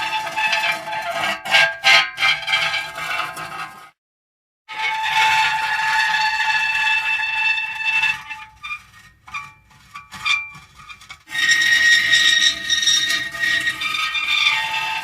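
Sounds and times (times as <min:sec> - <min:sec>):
metal creaking and squealing: 0:00.0 - 0:03.9, 0:04.7 - 0:15.0.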